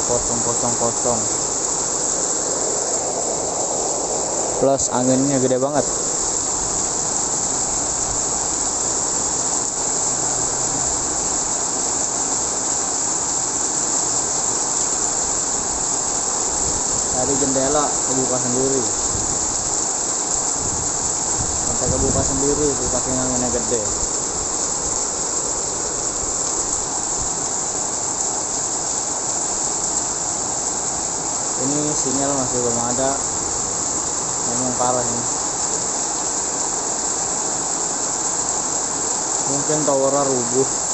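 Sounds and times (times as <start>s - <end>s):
heavy rain and strong wind: 0.0s - 40.9s.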